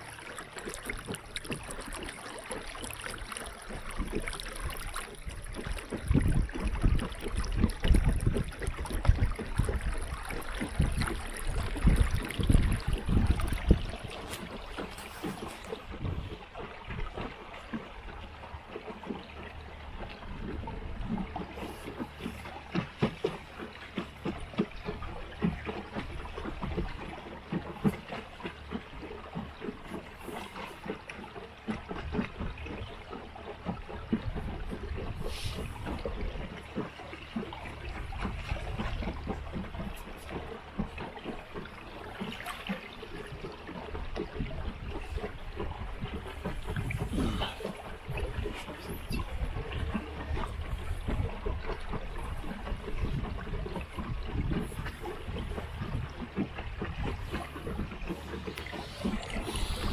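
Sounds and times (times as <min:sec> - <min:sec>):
water splashing against boat hull: 0:00.0 - 0:59.9.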